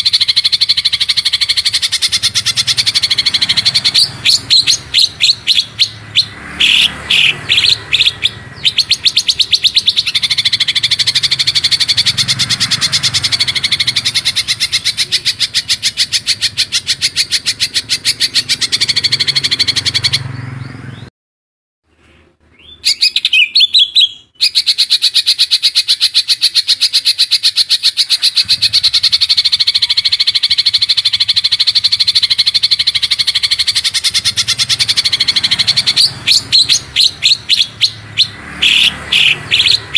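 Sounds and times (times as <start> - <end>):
bird chirps: 0.0 - 21.1, 21.9 - 39.9
songbird fast trill: 0.0 - 21.1, 22.4 - 39.9.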